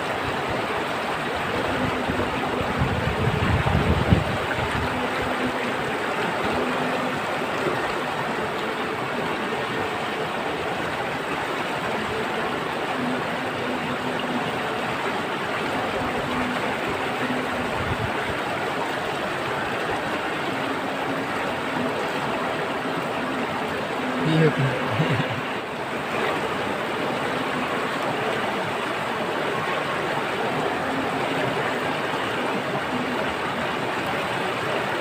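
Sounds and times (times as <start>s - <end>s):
water rushing: 0.0s - 35.0s.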